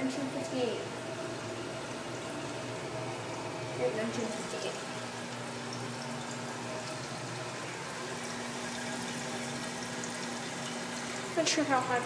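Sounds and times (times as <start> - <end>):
toilet tank refilling: 0.0 - 12.0.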